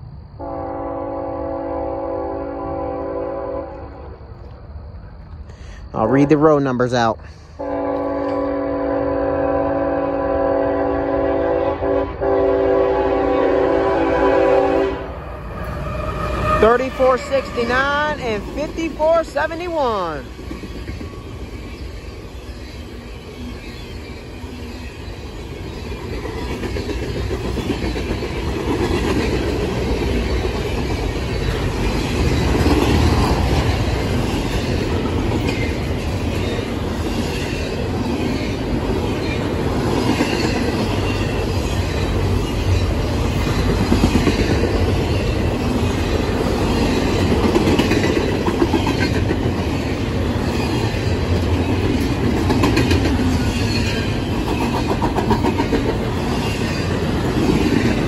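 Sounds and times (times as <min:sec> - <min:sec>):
train wheels rumbling on rail: 0:00.0 - 0:58.0
train clacks: 0:06.0 - 0:58.0.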